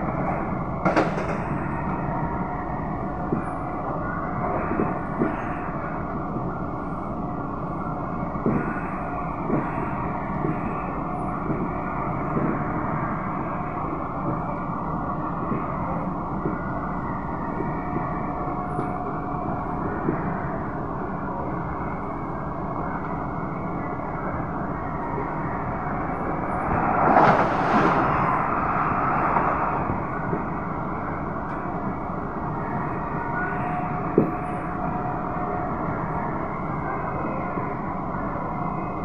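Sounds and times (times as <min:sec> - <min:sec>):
train wheels rumbling on rail: 0:00.0 - 0:23.2, 0:24.4 - 0:37.4
faint steady tones: 0:00.0 - 0:39.0.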